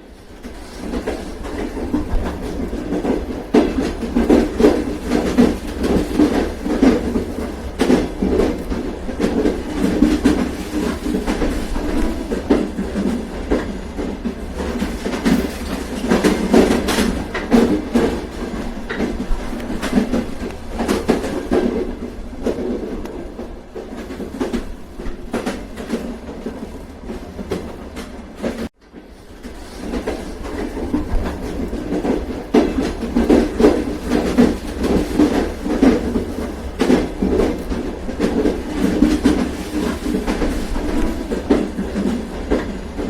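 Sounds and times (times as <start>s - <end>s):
train carriage rumble: 0.0s - 43.0s
wheels clacking over rail joints: 0.0s - 43.0s.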